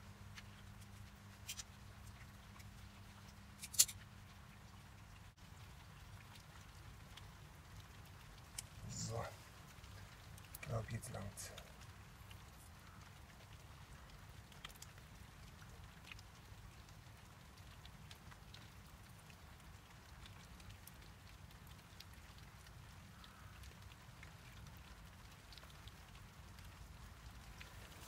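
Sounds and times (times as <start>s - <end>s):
light rain drops ticking: 0.0s - 28.0s.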